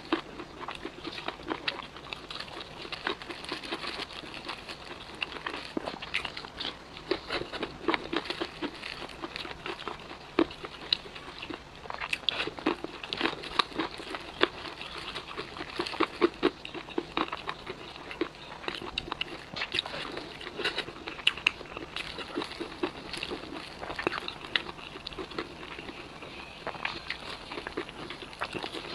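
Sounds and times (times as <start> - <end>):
person chewing crispy chicken: 0.0 - 28.9.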